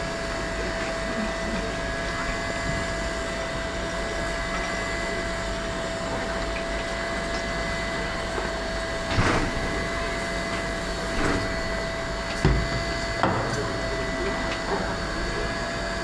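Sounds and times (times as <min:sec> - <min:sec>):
steady whine: 0:00.0 - 0:16.0.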